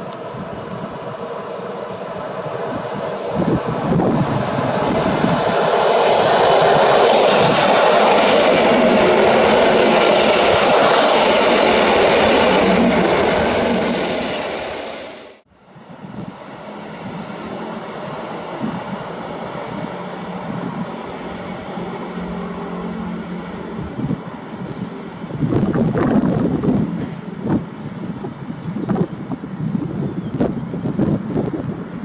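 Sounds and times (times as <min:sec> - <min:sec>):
wind noise: 0:00.0 - 0:15.0, 0:15.6 - 0:17.6, 0:18.4 - 0:21.8, 0:23.6 - 0:32.0
distant electric train approaching: 0:00.0 - 0:30.0
train passing with wheels rushing: 0:00.0 - 0:32.0.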